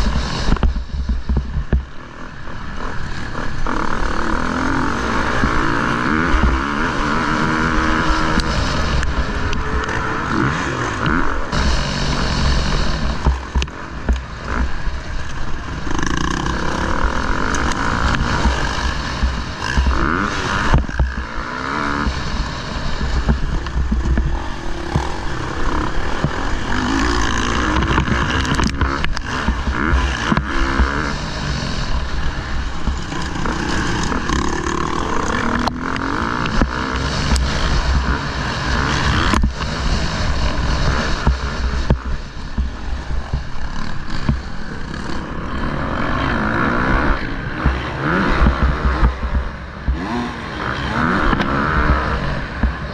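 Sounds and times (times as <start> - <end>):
motorcycle engine revving: 0.0 - 52.9
wind rumble on microphone: 0.0 - 52.9.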